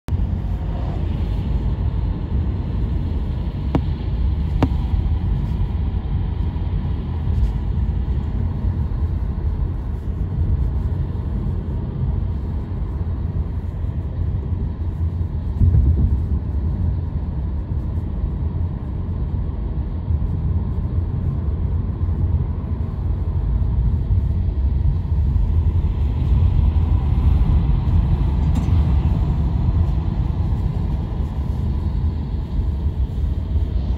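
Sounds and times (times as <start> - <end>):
road and tyre rumble: 0.1 - 33.9.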